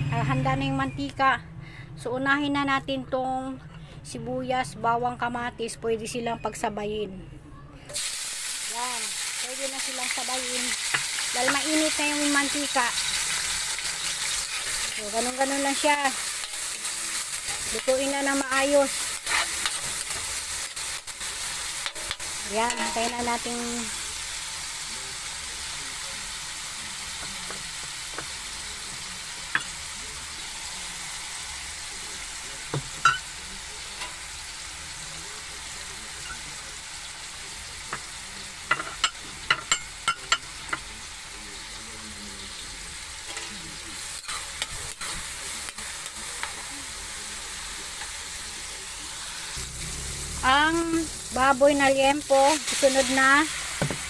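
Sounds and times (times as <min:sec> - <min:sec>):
food sizzling in hot oil: 0:07.9 - 0:54.0.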